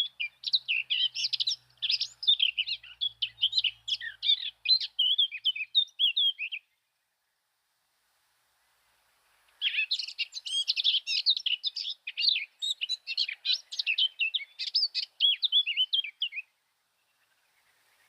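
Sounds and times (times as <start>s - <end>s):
bird chirping and twittering: 0.0s - 6.8s, 9.5s - 18.0s.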